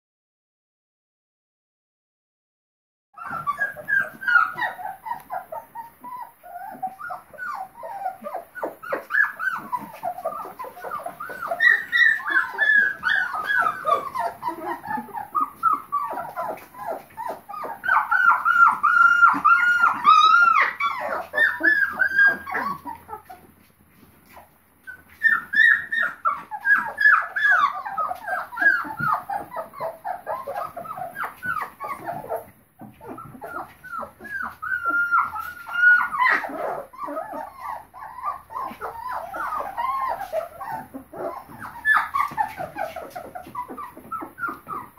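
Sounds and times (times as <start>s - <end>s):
puppies whimpering and crying: 3.2s - 44.9s.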